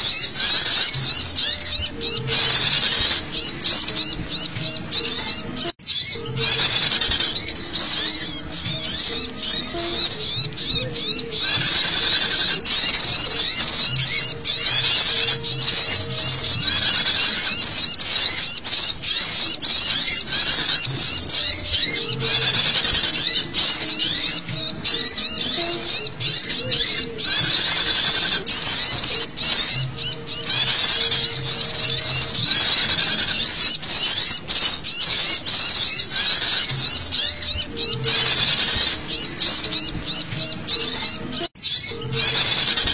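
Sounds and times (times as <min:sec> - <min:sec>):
chorus of small songbirds chirping: 0:00.0 - 0:42.9.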